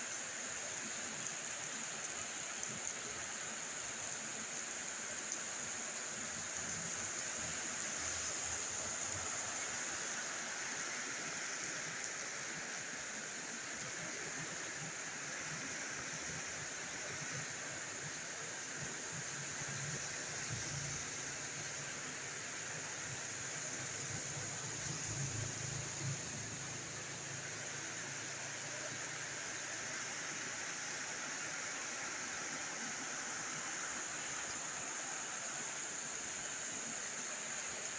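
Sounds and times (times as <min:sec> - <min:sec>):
heavy rain pouring: 0:05.1 - 0:36.9.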